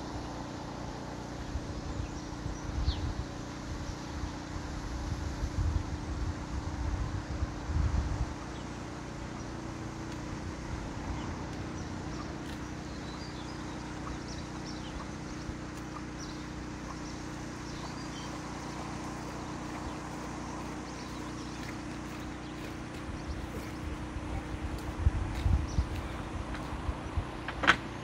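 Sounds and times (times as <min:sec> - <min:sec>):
small birds chirping: 0:00.0 - 0:04.9, 0:07.0 - 0:28.0
boat engine idling: 0:00.0 - 0:28.0.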